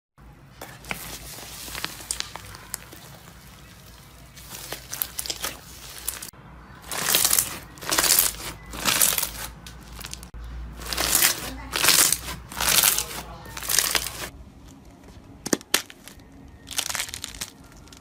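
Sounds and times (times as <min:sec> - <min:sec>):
slime squeezed by hand crackling: 0:00.7 - 0:14.3, 0:15.5 - 0:18.0.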